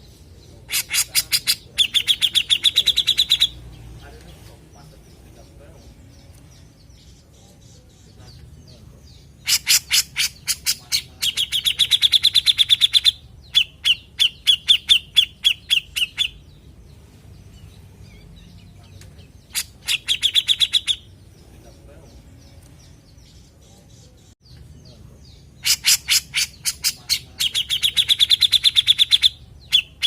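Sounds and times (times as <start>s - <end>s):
bulbul singing: 0.0s - 30.0s.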